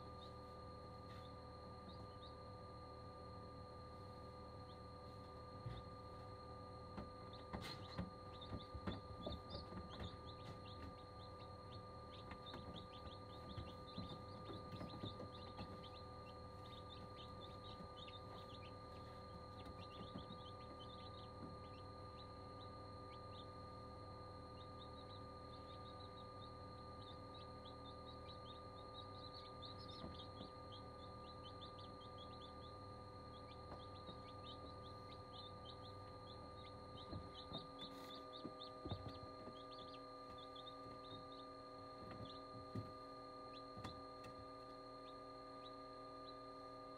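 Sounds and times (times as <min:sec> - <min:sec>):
steady hum: 0:00.0 - 0:46.9
chicks peeping: 0:01.0 - 0:02.5, 0:06.9 - 0:23.6, 0:24.4 - 0:46.5.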